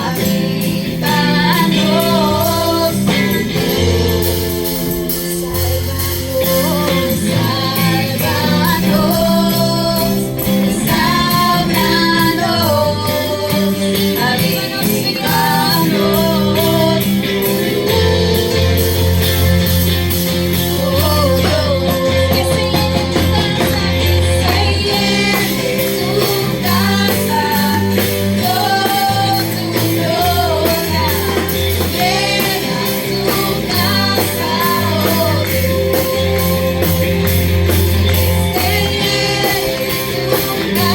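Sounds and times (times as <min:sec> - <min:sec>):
band with guitar and bass: 0:00.0 - 0:40.9
person singing worship song: 0:00.0 - 0:40.9.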